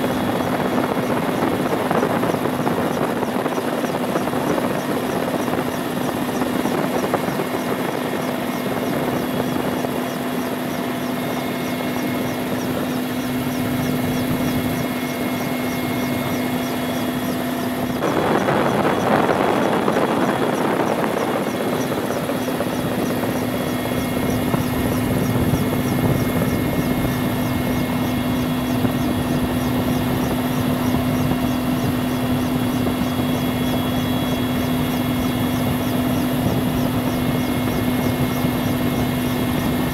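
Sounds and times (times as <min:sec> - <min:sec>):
helicopter rotors beating: 0:00.0 - 0:39.9
rush of noise: 0:00.0 - 0:39.9
turbine engines whining: 0:00.0 - 0:39.9.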